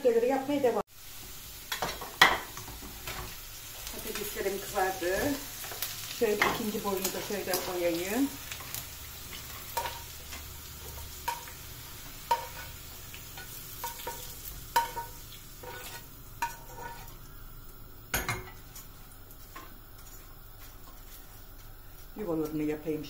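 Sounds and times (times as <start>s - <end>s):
fries sizzling in hot oil: 0.0s - 23.0s.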